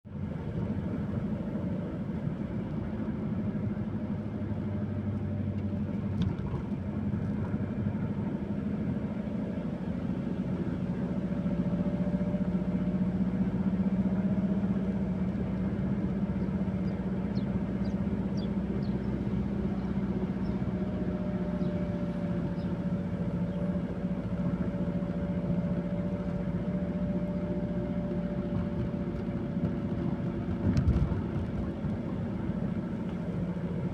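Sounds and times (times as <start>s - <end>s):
vehicle engine running: 0.1s - 33.9s.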